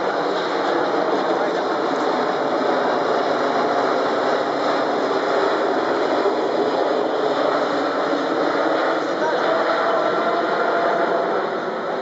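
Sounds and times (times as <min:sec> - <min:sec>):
airliner flying low overhead: 0:00.0 - 0:12.0.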